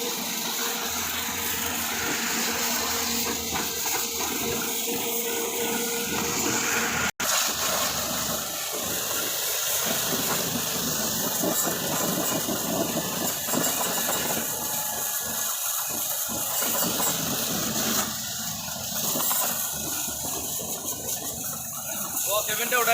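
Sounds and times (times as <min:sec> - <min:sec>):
motor running: 0:00.0 - 0:22.9
pressure washer jet spraying: 0:00.0 - 0:22.9.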